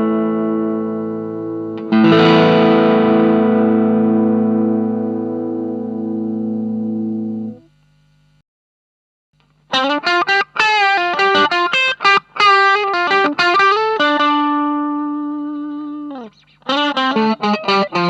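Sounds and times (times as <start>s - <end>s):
distorted electric guitar lead: 0.0s - 7.7s, 9.7s - 18.0s.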